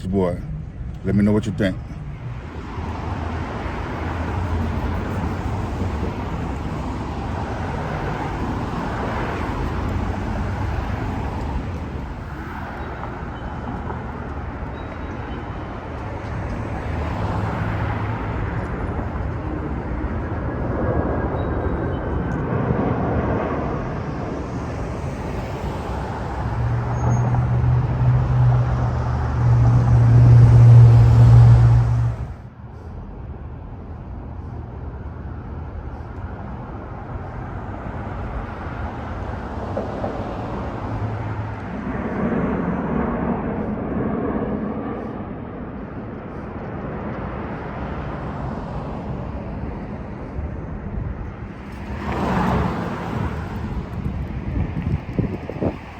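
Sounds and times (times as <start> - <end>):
heavy low engine drone: 0.0 - 55.9
vehicles going by: 0.0 - 55.9.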